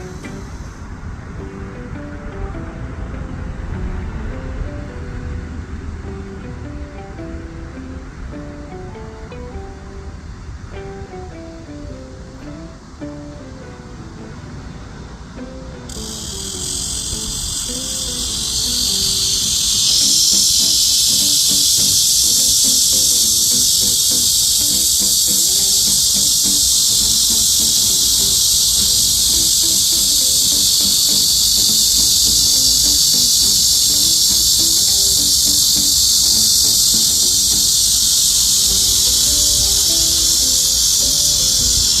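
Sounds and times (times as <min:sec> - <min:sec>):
cicadas buzzing chorus: 0:00.0 - 0:42.0.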